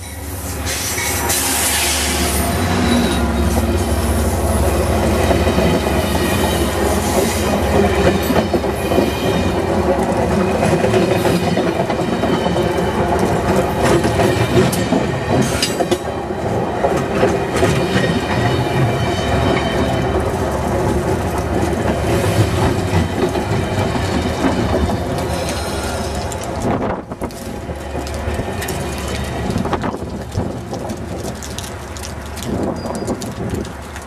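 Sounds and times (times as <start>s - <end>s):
diesel locomotive passing: 0.0s - 34.0s
train coaches rumbling: 0.0s - 34.0s
wheels clicking over rail joints: 1.0s - 34.0s.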